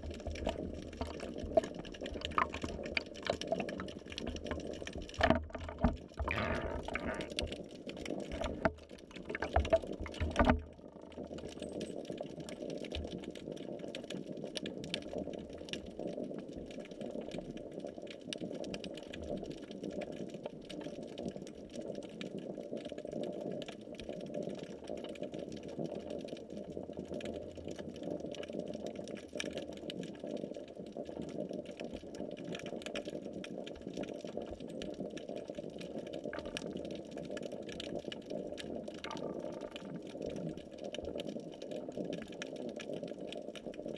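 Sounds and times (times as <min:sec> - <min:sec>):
faint underwater clicks: 0:00.0 - 0:43.9
muffled underwater rumble: 0:00.0 - 0:43.9.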